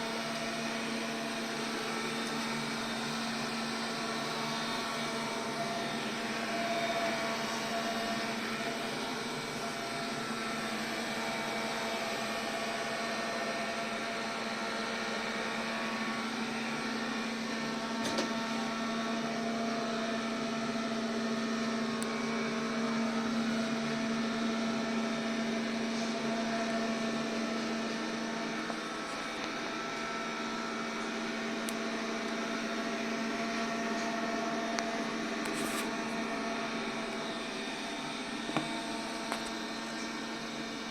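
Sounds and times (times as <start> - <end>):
robot vacuum cleaner humming: 0.0 - 40.9.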